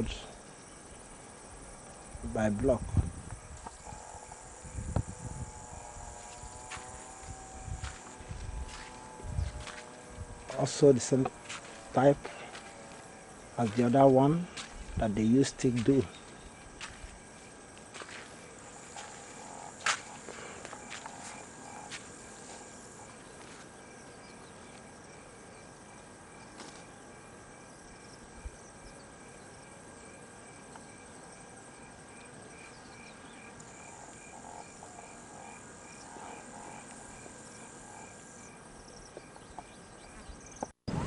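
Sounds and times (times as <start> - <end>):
insect chirping: 0.0 - 41.0
insect chorus buzzing: 0.0 - 41.0.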